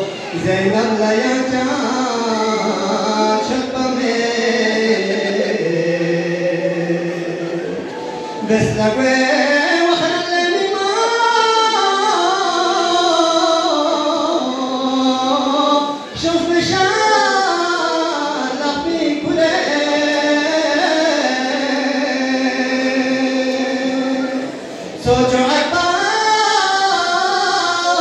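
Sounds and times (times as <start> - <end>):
person chanting unaccompanied: 0.0 - 28.0.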